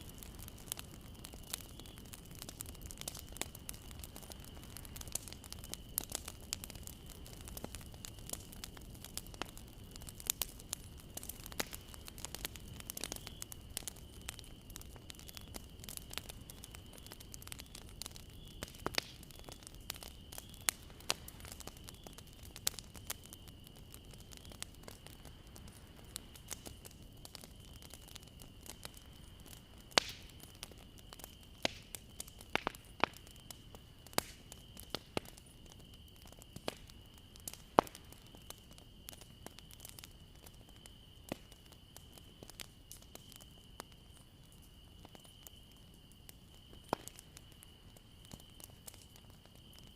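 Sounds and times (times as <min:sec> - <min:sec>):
bonfire crackling: 0:00.0 - 0:49.9.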